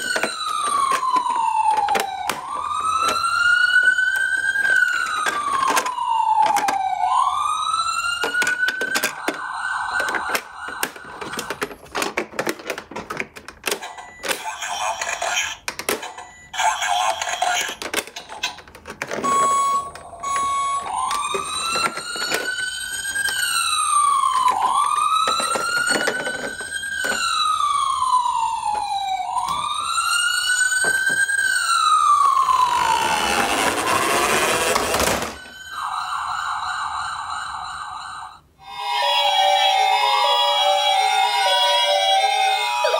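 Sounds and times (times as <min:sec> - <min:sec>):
toy siren wailing: 0:00.0 - 0:12.1, 0:19.2 - 0:42.9.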